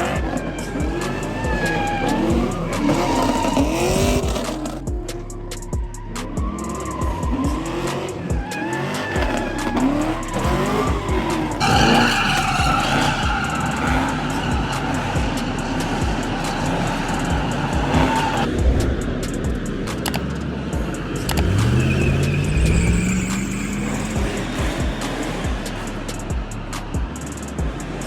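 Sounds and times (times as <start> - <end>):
car engines revving: 0.0 - 28.0
music with heavy bass beat: 0.0 - 28.0
tire squeal: 0.0 - 28.0.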